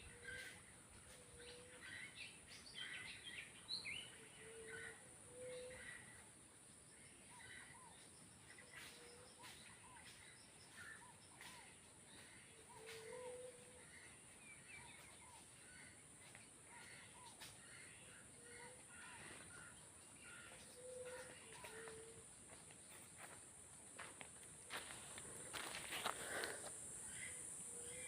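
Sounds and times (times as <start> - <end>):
birds calling: 0.0 - 6.4, 7.0 - 28.0
steady high-pitched hiss: 0.0 - 28.0.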